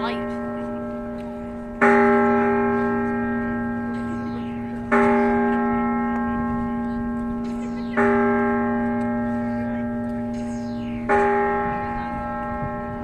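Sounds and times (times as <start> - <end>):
large bell tolling: 0.0 - 13.0.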